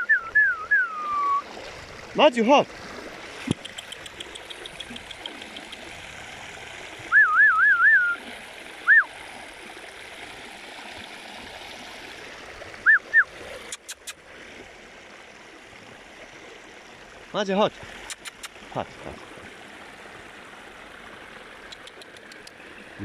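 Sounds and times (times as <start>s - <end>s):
small stream flowing: 0.0s - 23.0s.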